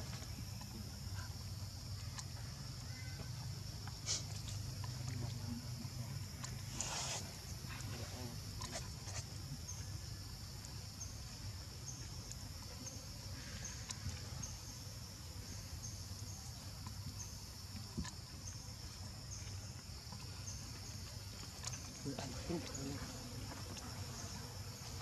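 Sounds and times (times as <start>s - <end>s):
insect buzz: 0.0s - 25.0s
insect chirps: 0.0s - 25.0s.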